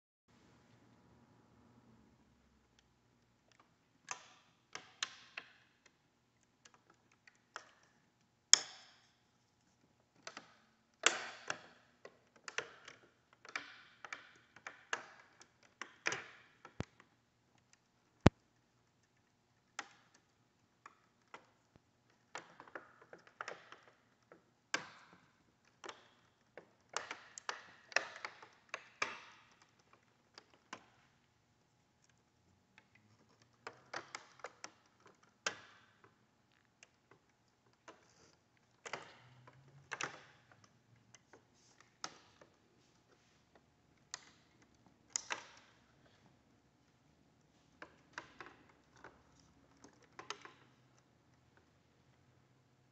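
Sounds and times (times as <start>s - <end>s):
folding mechanism clicks and creaks: 3.2s - 52.9s.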